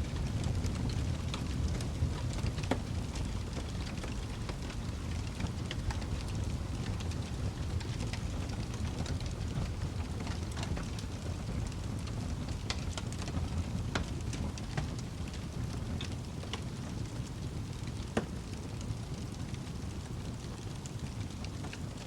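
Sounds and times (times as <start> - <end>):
low rumble of flames: 0.0 - 22.0
wood fire crackling: 0.0 - 22.0.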